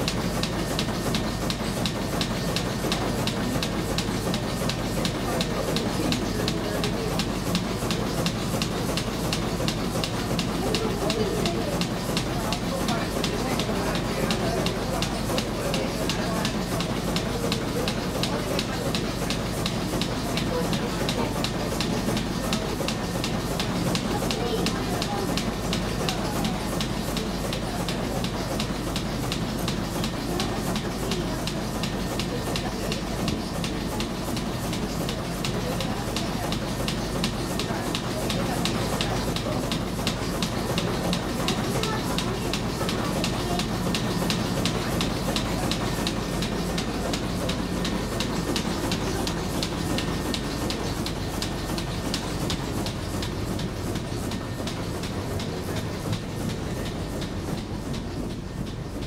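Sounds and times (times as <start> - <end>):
regular mechanical clicking: 0.0 - 59.0
ship engine rumble: 0.0 - 59.0.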